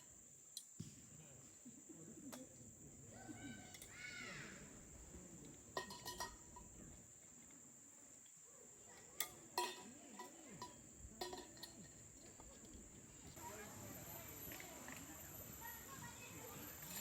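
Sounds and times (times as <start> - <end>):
light metallic clinks: 0.0 - 4.0, 5.4 - 17.0.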